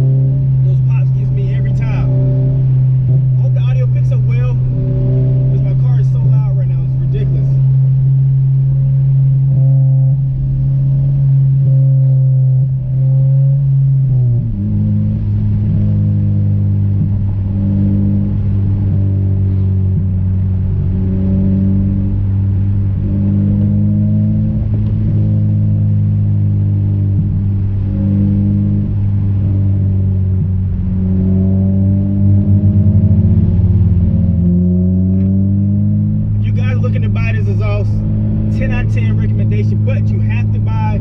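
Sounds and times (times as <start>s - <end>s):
car engine and exhaust droning: 0.0s - 41.0s.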